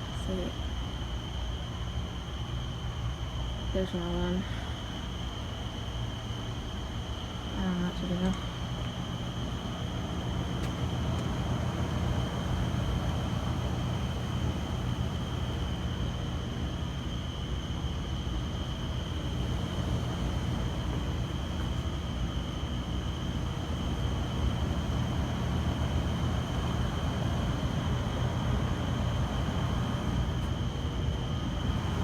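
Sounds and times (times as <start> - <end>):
low rumble and hiss: 0.0 - 32.0.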